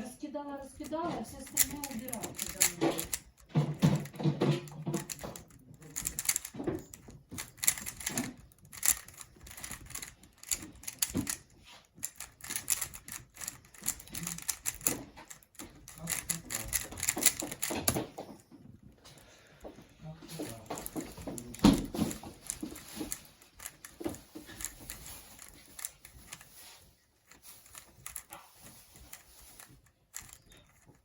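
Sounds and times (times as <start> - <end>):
puzzle cube plastic clicking: 0.7 - 18.3, 20.3 - 31.0.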